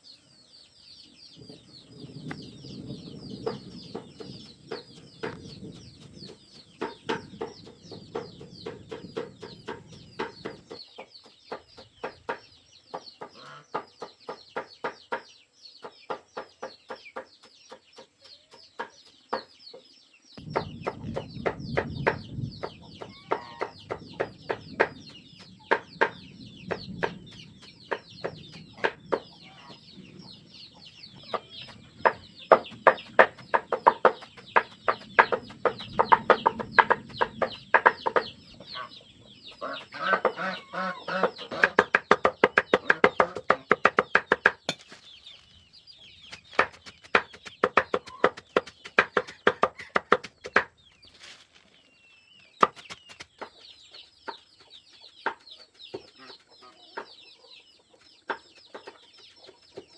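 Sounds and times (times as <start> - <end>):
chicks peeping: 0.0 - 59.9
chickens clucking: 1.4 - 59.9.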